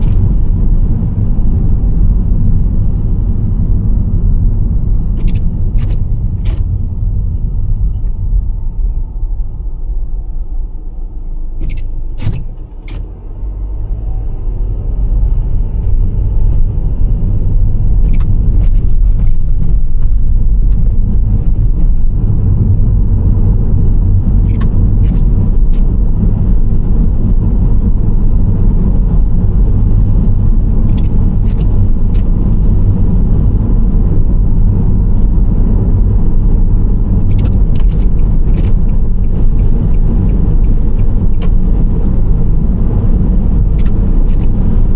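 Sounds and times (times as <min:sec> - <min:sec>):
engine and road noise rumble: 0:00.0 - 0:44.9.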